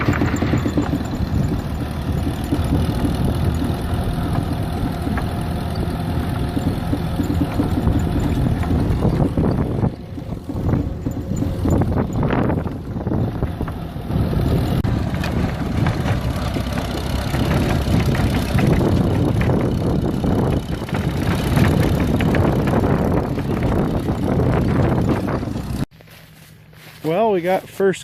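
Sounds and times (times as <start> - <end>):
machinery clatter and knocks: 0.0 - 25.9
tractor engine running: 0.0 - 28.0.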